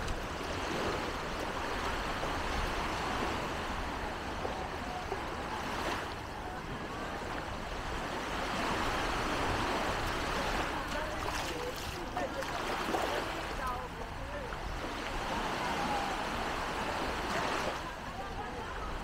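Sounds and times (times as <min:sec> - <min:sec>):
surf and wind noise: 0:00.0 - 0:19.0
faint distant voices: 0:02.8 - 0:19.0.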